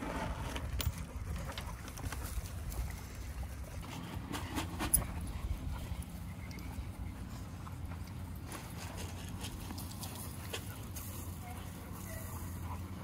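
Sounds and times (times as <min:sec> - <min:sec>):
dogs panting: 0:01.2 - 0:13.0.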